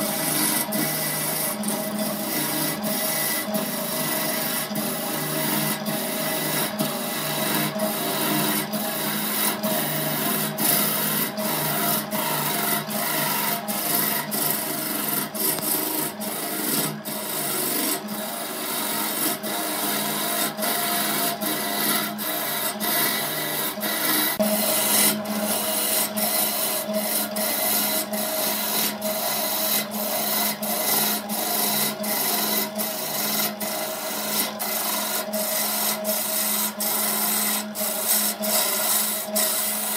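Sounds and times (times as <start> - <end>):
chisel scraping spinning wood: 0.0 - 39.9
lathe motor hum: 0.0 - 39.9.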